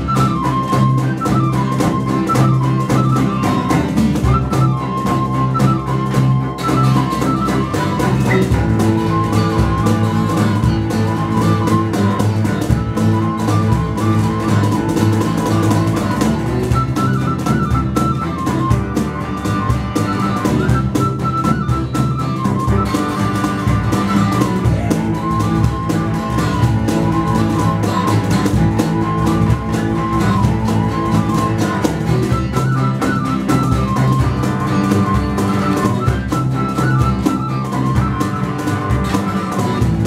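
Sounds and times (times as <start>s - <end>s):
cajon beat with cymbal: 0.0s - 40.0s
double bass: 0.0s - 40.0s
flute melody: 0.0s - 40.0s
strummed acoustic guitar: 0.0s - 40.0s.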